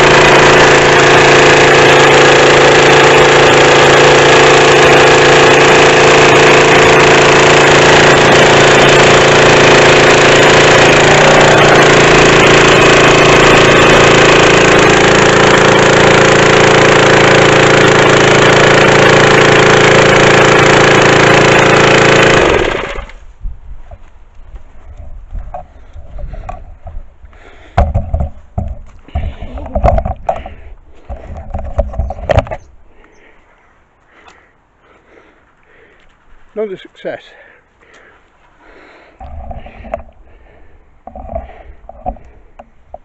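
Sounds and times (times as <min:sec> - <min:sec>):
small petrol engine running: 0:00.0 - 0:23.2, 0:25.0 - 0:33.1, 0:37.3 - 0:43.0.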